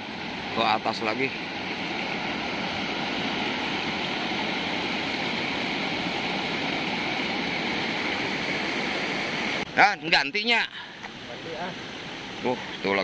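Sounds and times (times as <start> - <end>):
river water pouring over rocks: 0.0 - 13.0.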